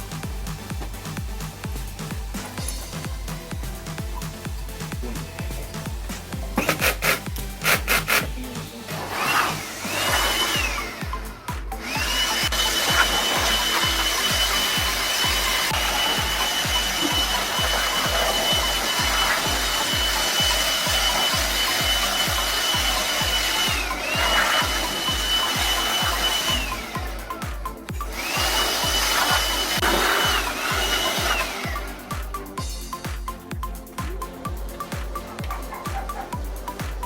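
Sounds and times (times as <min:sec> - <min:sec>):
music with steady beat: 0:00.0 - 0:37.0.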